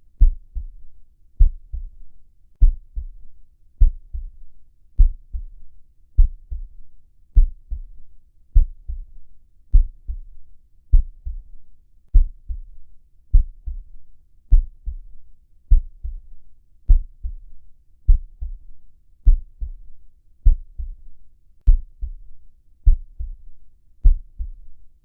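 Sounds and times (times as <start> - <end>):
heartbeat: 0.2 - 6.8, 7.4 - 8.0, 8.6 - 24.8.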